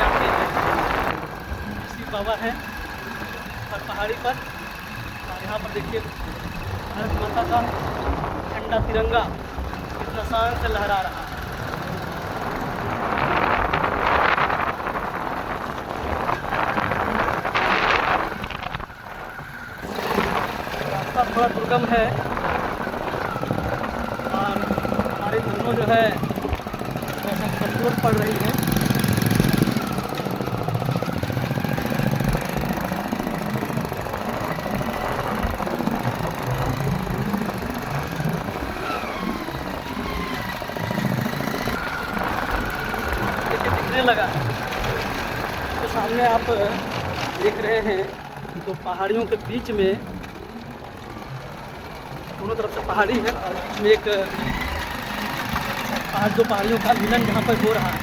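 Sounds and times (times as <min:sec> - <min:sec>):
wind rushing over microphone: 0:00.0 - 0:03.7, 0:04.3 - 0:48.6
vehicle running: 0:00.0 - 0:58.0.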